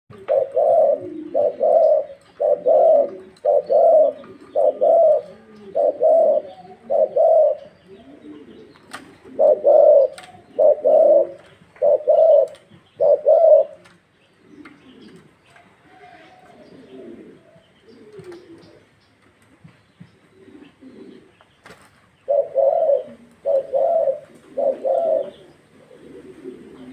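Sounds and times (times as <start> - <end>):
dove cooing: 0.1 - 21.4, 22.2 - 26.9.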